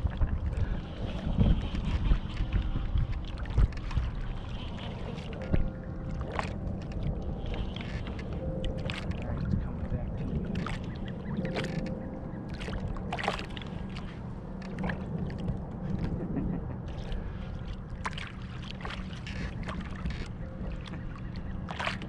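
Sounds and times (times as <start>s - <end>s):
steady low rumble: 0.0s - 22.0s
water splashing against kayak: 0.0s - 22.0s.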